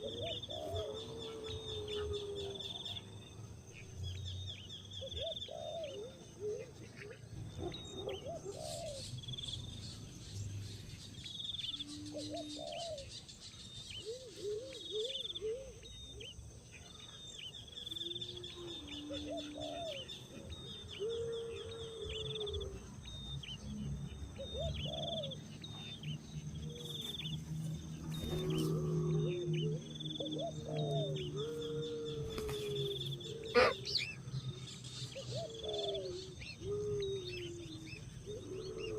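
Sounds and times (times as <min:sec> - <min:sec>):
birds chirping: 0:00.0 - 0:38.9
lower curved bird calls: 0:00.0 - 0:38.9.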